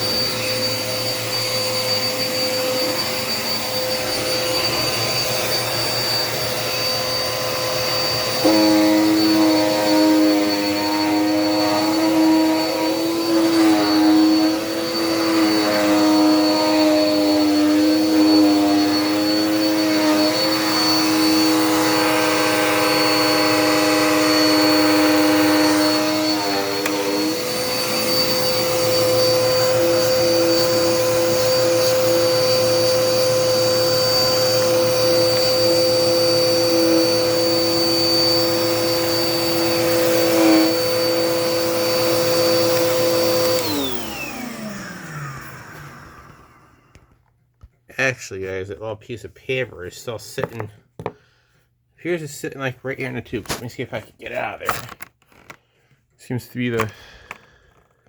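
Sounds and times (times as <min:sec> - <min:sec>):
vacuum cleaner motor whine: 0:00.0 - 0:47.2.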